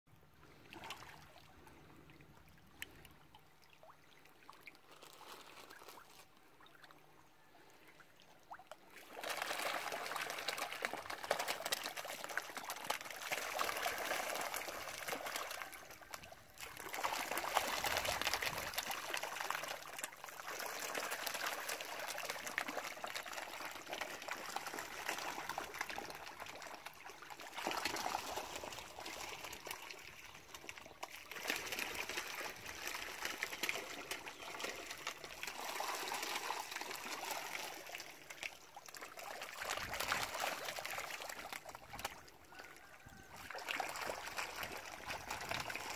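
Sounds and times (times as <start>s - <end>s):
fish splashing at water surface: 8.5s - 45.9s.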